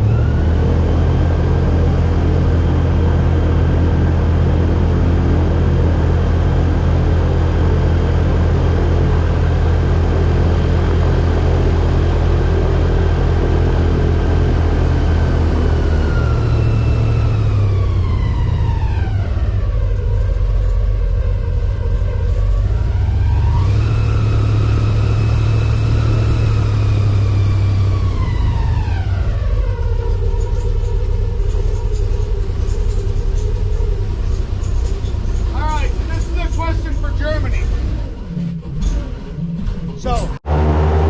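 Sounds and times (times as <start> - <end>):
airboat engine and propeller: 0.0 - 41.0.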